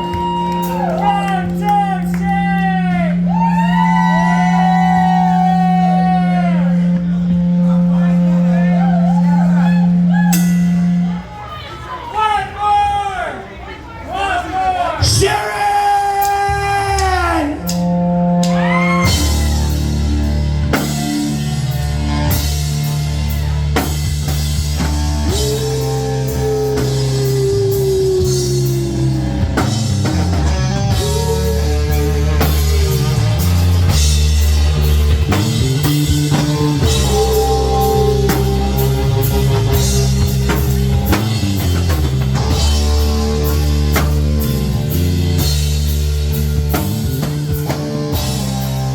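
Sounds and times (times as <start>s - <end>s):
lead guitar bending notes: 0.0s - 11.8s, 16.4s - 48.9s
live rock band playing: 0.0s - 12.0s, 15.0s - 48.9s.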